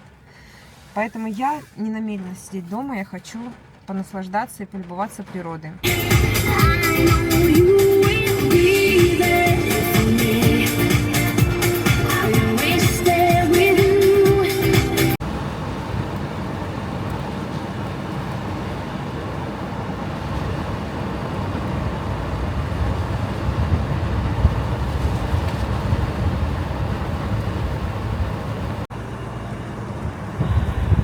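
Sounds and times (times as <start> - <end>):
road and engine noise in car: 0.0 - 31.0.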